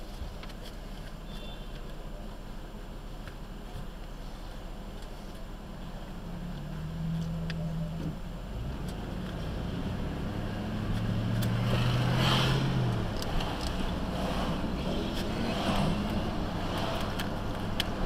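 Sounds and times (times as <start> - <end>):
road noise: 0.0 - 18.0
vehicle engine: 0.0 - 18.0.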